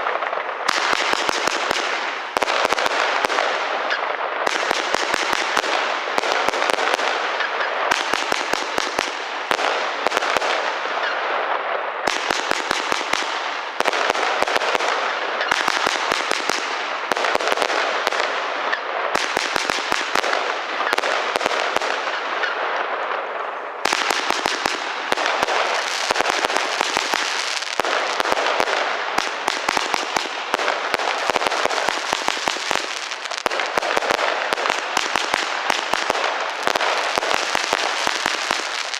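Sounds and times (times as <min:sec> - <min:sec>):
firework cake bangs and crackle: 0:00.0 - 0:38.9.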